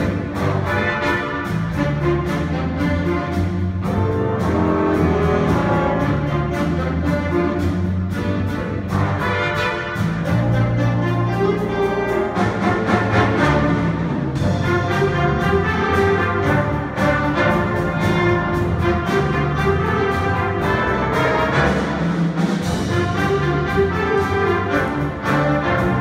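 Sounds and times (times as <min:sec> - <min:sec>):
jazz big band playing: 0:00.0 - 0:26.0.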